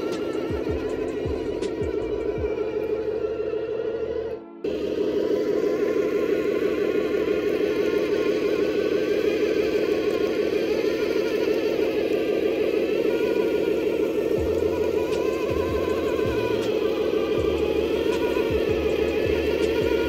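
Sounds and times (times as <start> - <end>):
toy truck motor buzzing drone: 0.0 - 20.0.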